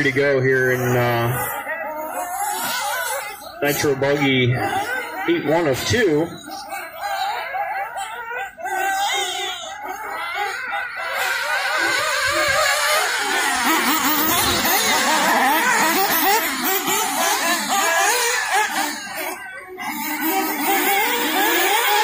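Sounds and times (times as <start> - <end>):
rc car engines revving: 0.0 - 22.0.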